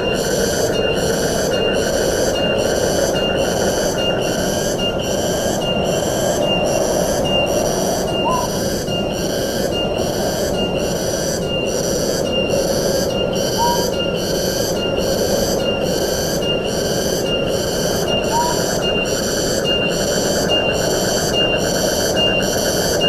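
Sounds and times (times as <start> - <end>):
insect pulsing call: 0.0 - 23.0
wind through forest: 0.0 - 23.0.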